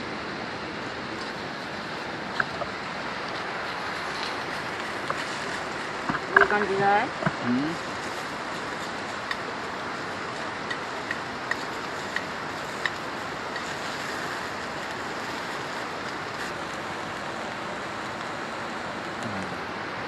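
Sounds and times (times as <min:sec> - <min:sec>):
shrimp sizzling on a grill: 0:00.0 - 0:20.0
crackling pops: 0:00.4 - 0:19.7.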